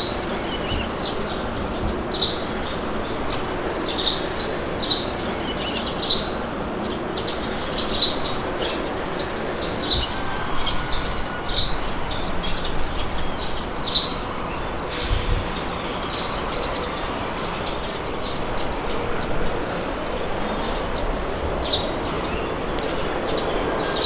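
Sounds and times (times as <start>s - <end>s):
rushing wind: 0.0s - 24.0s
small birds chirping: 0.0s - 24.0s.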